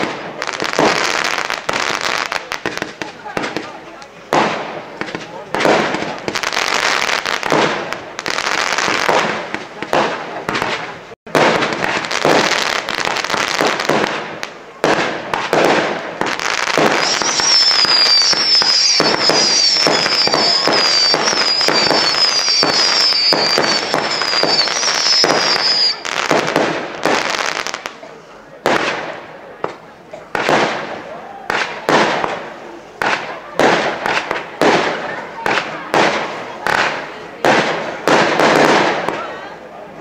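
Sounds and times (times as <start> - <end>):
whistling fireworks: 0.0 - 39.7
fireworks bangs and crackling: 0.0 - 40.0.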